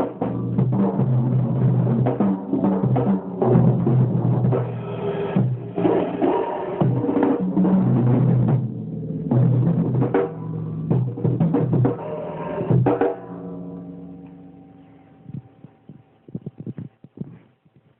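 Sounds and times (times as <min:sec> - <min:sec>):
drum kit playing: 0:00.0 - 0:15.8.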